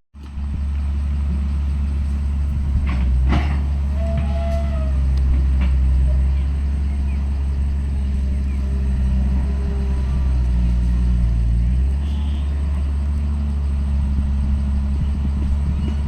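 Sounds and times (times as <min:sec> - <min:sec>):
diesel engine droning: 0:00.1 - 0:16.0.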